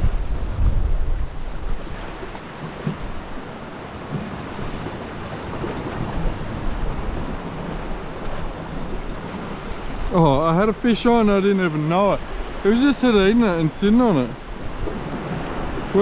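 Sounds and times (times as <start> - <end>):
sea swell surging against rocks: 0.0 - 16.0
wind buffeting microphone: 0.0 - 16.0.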